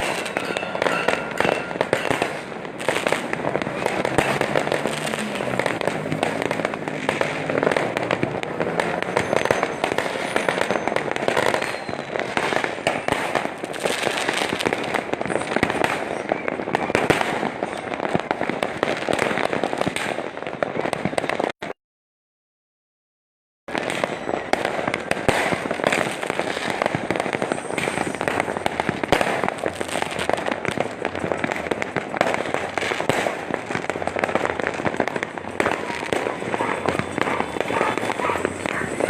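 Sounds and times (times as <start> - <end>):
fireworks popping and crackling: 0.0 - 21.8, 23.7 - 39.0.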